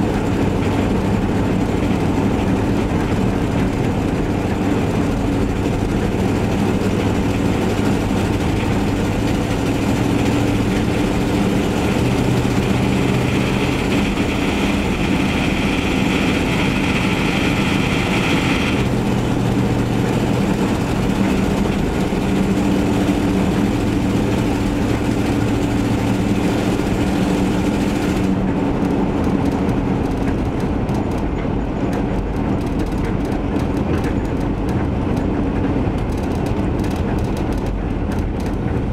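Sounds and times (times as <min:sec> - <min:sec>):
van engine with leaking exhaust: 0:00.0 - 0:38.9.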